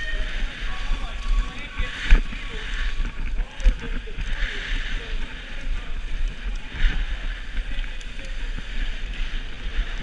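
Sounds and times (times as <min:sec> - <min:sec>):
bike tyres rolling on dirt: 0:00.0 - 0:10.0
wind rushing over camera: 0:00.0 - 0:10.0.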